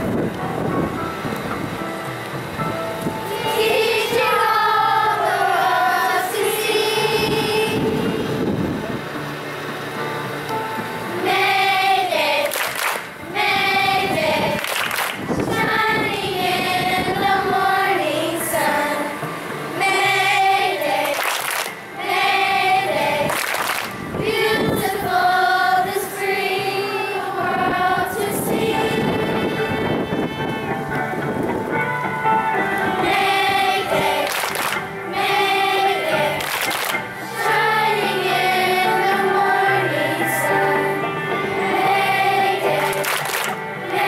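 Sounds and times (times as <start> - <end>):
children's chorus singing: 3.2 - 8.4, 11.0 - 30.8, 32.4 - 44.0.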